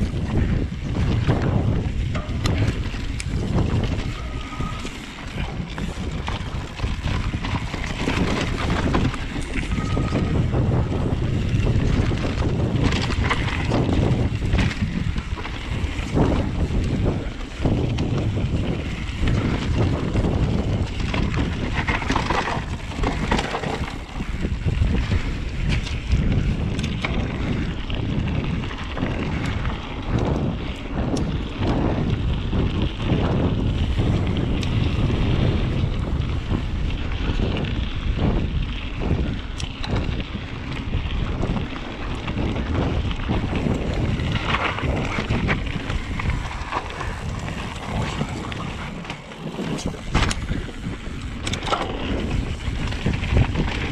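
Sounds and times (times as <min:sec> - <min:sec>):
bike clicks and knocks: 0:00.0 - 0:53.9
wind buffeting microphone: 0:00.0 - 0:53.9.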